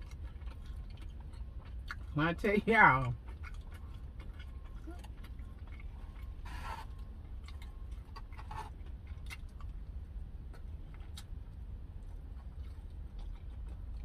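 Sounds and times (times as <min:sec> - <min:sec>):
chewing and mouth clicks: 0:00.0 - 0:14.0
steady low hum: 0:00.0 - 0:14.0.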